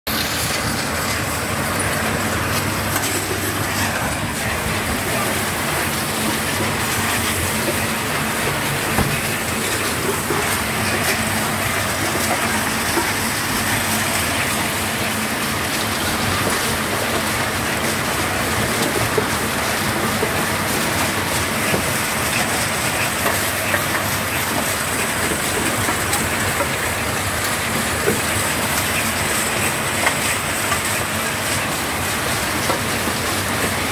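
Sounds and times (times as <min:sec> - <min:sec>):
conveyor and crusher rattling: 0:00.1 - 0:33.9.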